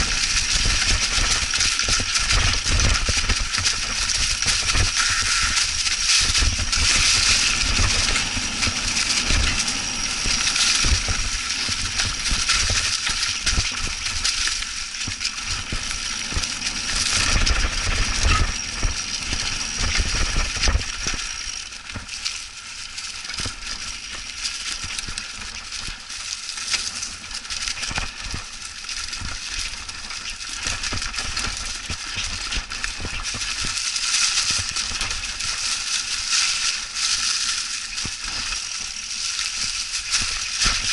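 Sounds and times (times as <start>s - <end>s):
bike rattling over bumps: 0.0s - 40.9s
bike tires crunching leaves: 0.0s - 40.9s.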